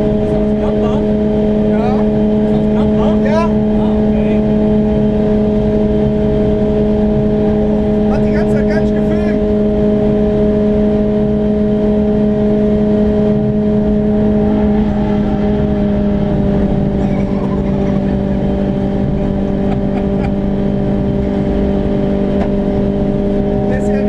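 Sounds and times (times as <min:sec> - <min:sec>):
car engine at high revs: 0:00.0 - 0:24.0
road noise: 0:00.0 - 0:24.0.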